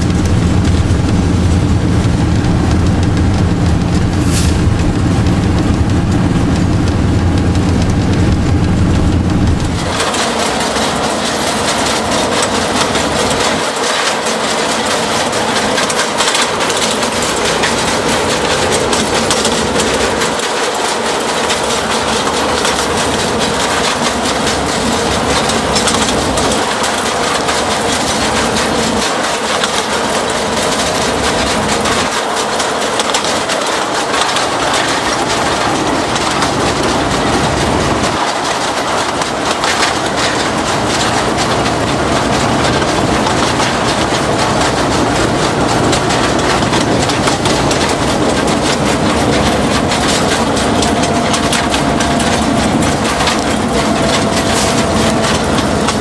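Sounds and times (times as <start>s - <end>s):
coupler and wagons rattling: 0.0s - 56.0s
train wheels clattering on track: 0.0s - 56.0s.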